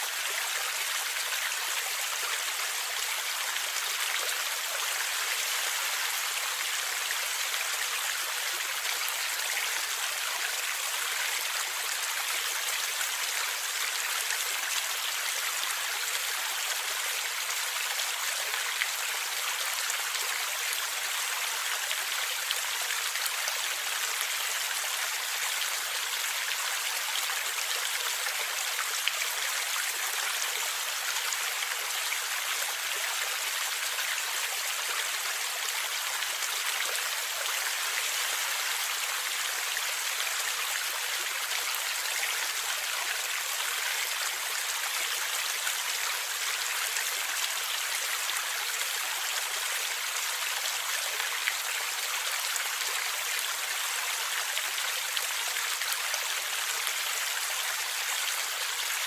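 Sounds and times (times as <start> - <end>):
stream water rushing and gurgling: 0.0 - 59.0.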